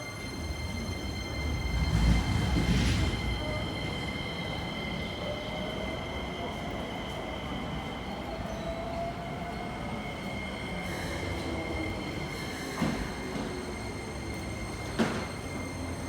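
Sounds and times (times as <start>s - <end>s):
train rumbling: 0.0s - 7.2s, 10.3s - 16.0s
thin train whines: 0.0s - 16.0s.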